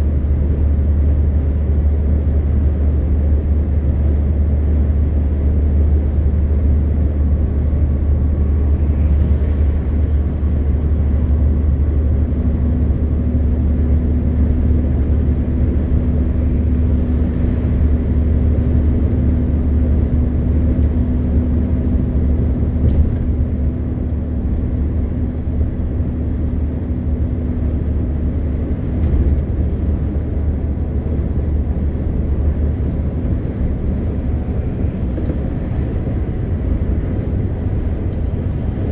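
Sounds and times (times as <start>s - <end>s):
road and tyre noise: 0.0s - 38.9s
truck diesel engine drone: 0.0s - 38.9s.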